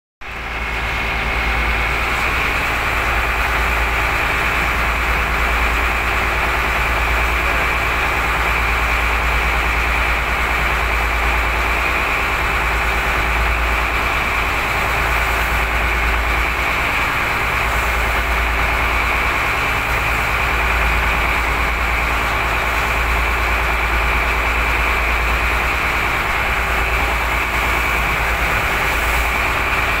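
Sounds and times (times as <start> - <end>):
motor boat engine rumbling: 0.2 - 30.0
wind: 0.2 - 30.0
water rushing: 0.3 - 30.0.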